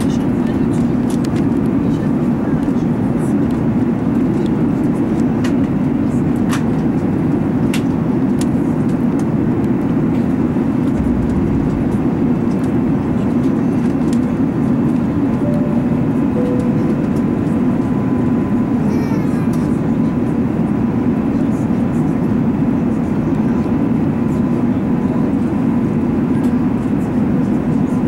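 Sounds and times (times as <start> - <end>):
airplane cabin roar: 0.0 - 28.0.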